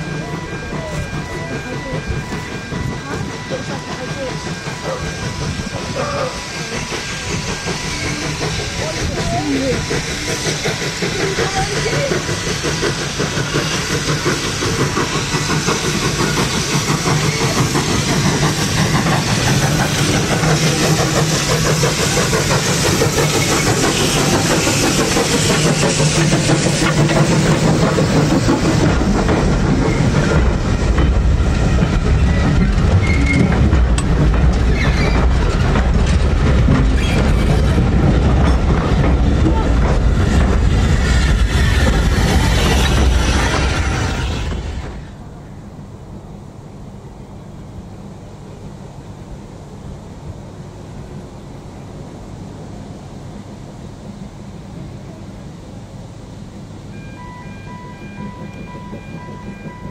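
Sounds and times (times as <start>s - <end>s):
train wheels rattling on rails: 0.0s - 59.9s.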